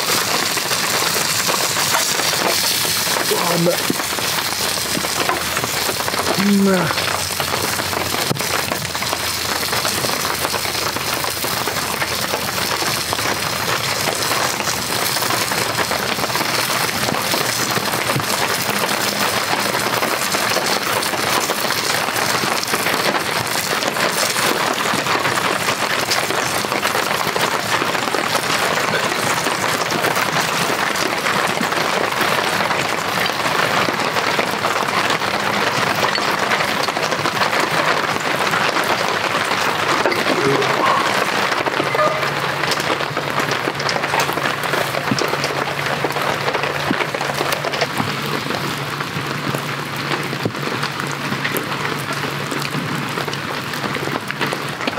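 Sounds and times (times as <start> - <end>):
heavy rain on a tent: 0.0 - 54.9.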